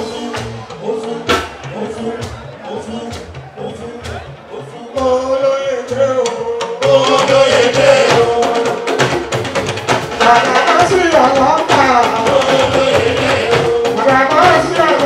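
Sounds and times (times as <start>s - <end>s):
man singing into a microphone: 0.0s - 9.1s, 10.2s - 15.0s
drums and percussion: 0.0s - 15.0s.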